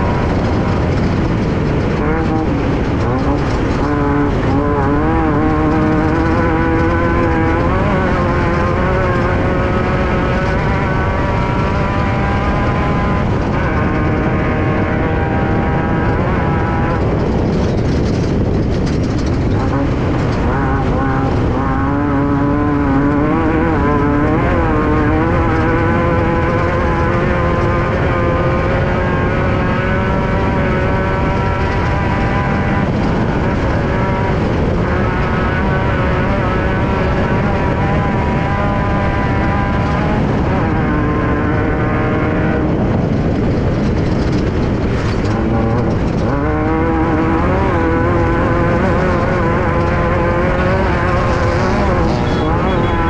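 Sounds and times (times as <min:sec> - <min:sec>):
car rough noise on dirt track: 0:00.0 - 0:53.0
race car engine running hard: 0:00.0 - 0:53.0.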